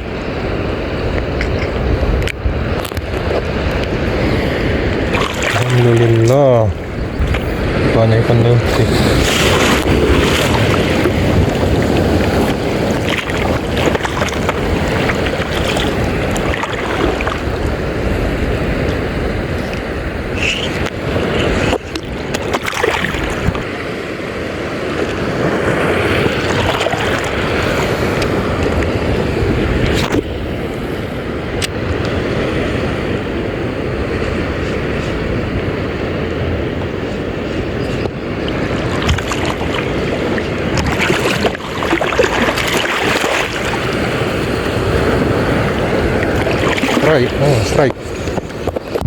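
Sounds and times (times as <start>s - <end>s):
water slapping around a boat: 0.0s - 49.0s
wind buffeting the microphone: 0.0s - 49.0s.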